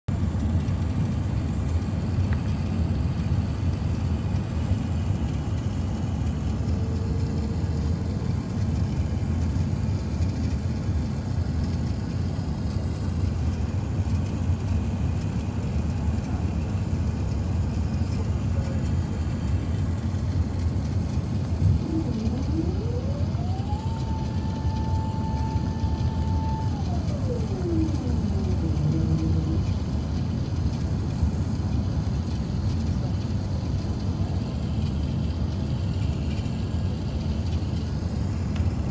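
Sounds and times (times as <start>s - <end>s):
airliner cabin rumble: 1.9s - 38.9s
aircraft whine: 4.3s - 14.6s, 15.2s - 38.9s.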